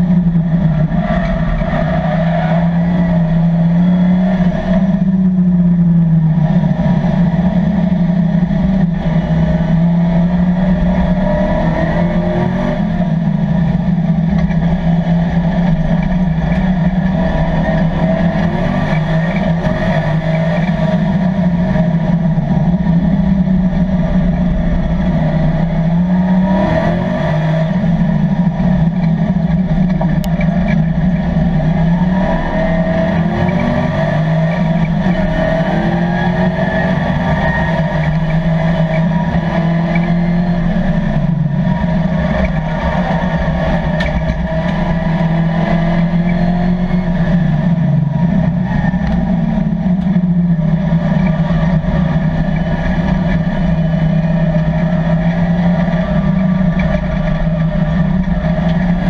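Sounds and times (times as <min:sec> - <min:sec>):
race car engine at speed: 0:00.0 - 0:59.0.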